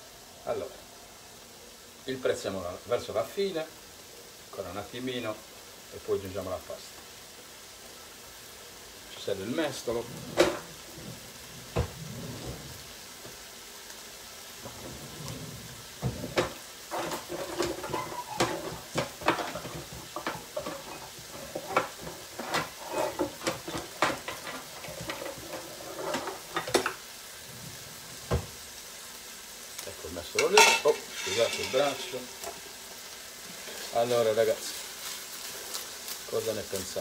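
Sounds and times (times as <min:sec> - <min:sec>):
onions sizzling in a pan: 0:00.0 - 0:37.0.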